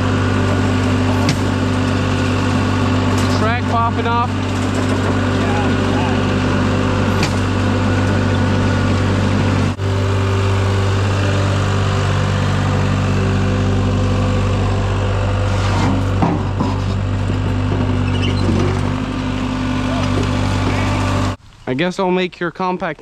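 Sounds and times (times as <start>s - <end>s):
construction machine engine running: 0.0s - 21.8s.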